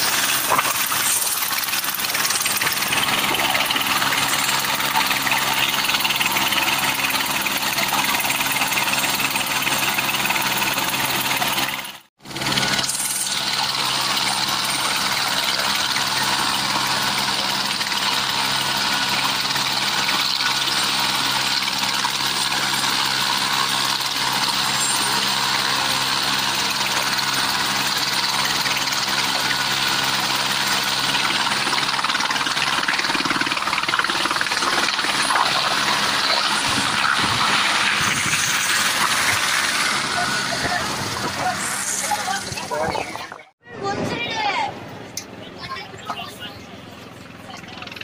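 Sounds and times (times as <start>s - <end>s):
helicopter engine and rotor running: 0.0s - 48.0s.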